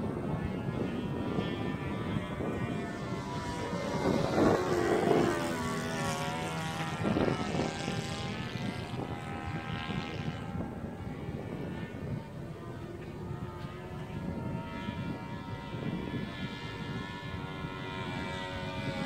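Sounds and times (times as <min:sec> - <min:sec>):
model airplane engine drone: 0:00.0 - 0:19.0.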